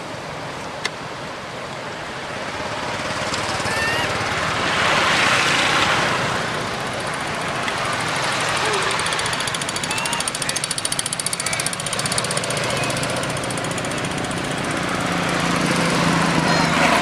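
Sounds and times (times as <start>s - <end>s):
outdoor noise haze: 0.0s - 17.0s.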